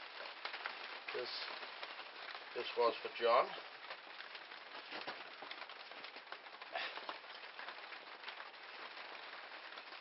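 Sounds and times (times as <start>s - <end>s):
rain on a shed roof: 0.0s - 10.0s.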